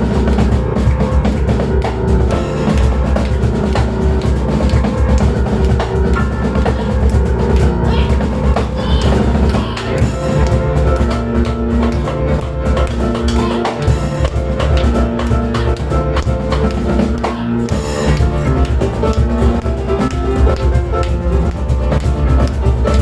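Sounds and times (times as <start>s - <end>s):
drum kit and cajon hits: 0.0s - 23.0s
piano chords: 0.0s - 23.0s.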